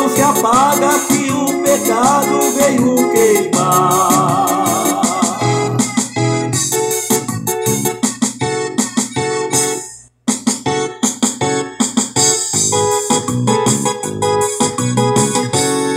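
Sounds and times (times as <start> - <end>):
bass: 0.0 - 15.9
electric keyboard chords: 0.0 - 15.9
percussion: 0.0 - 15.9.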